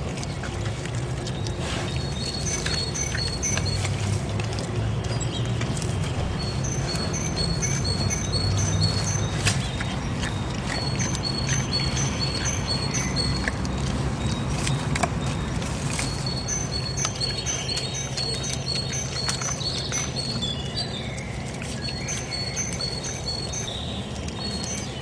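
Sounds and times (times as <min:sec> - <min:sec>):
small bird singing: 0:01.3 - 0:04.0, 0:05.1 - 0:25.0.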